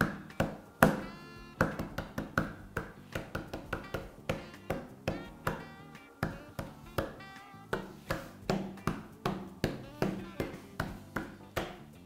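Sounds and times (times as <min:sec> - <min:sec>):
background music with ticking beat: 0:00.0 - 0:12.0
high melodic notes: 0:00.0 - 0:12.0.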